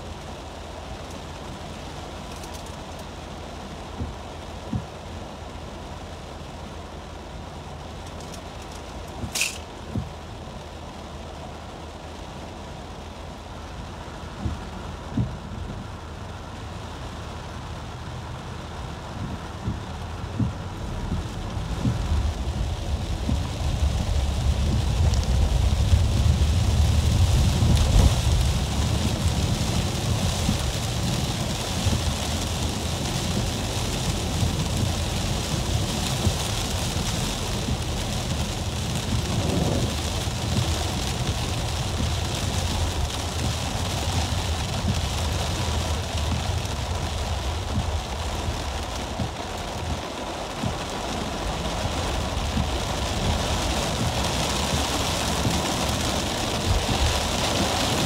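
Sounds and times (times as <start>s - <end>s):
heavy rain on car roof: 0.0s - 58.0s
road and engine rumble: 0.0s - 58.0s
tyres hissing on wet road: 0.0s - 58.0s.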